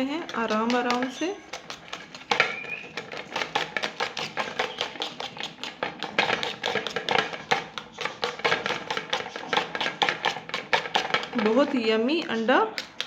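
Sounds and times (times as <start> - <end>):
utensil beating eggs in a bowl: 0.0 - 13.0.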